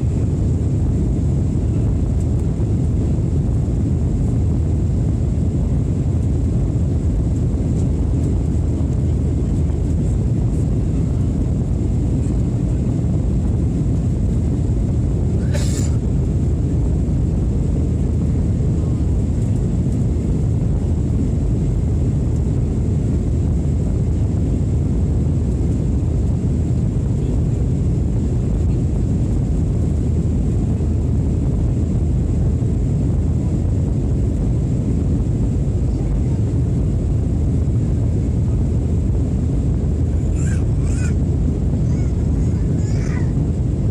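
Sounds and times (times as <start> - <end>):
airliner engine roar in cabin: 0.0 - 43.9.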